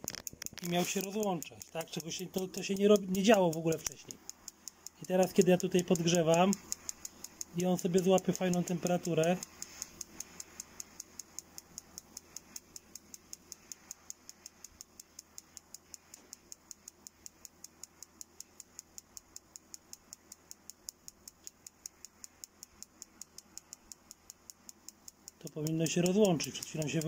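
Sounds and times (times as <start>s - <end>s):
spark igniter clicking: 0.0s - 27.0s.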